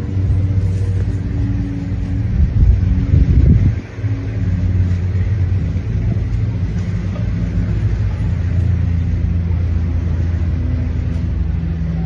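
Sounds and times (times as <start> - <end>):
low rumble with droning hum: 0.0 - 12.0.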